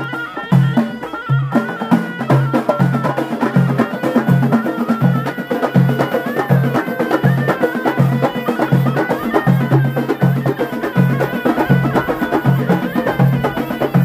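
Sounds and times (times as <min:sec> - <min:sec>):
drums beating: 0:00.0 - 0:14.0
shawm playing melody: 0:00.0 - 0:14.0.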